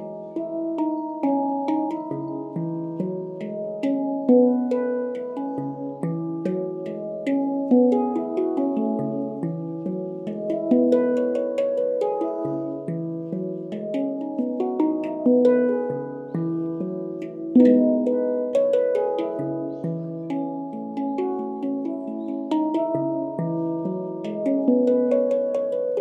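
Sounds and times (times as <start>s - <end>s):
handpan notes: 0.0s - 26.0s.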